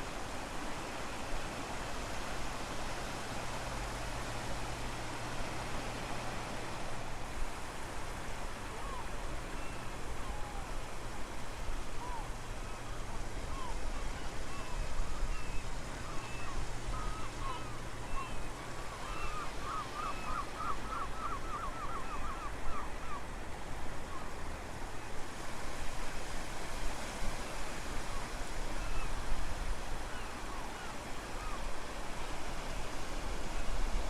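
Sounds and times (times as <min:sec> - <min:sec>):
ocean surf: 0:00.0 - 0:34.0.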